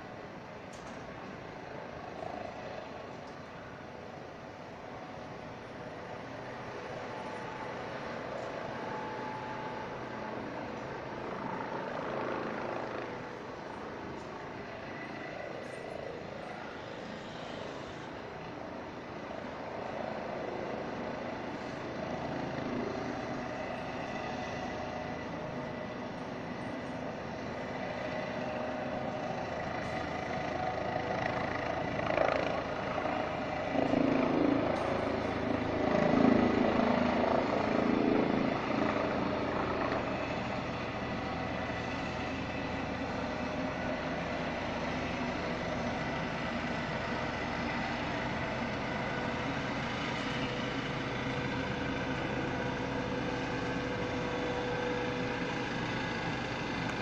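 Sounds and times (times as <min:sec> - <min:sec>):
helicopter engine and rotor hum: 0:00.0 - 0:57.0.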